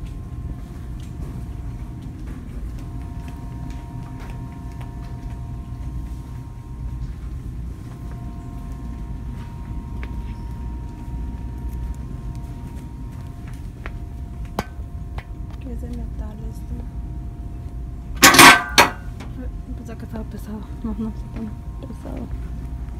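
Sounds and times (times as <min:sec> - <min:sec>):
faint steady hum: 0:00.0 - 0:22.9
steady low rumble: 0:00.0 - 0:22.9.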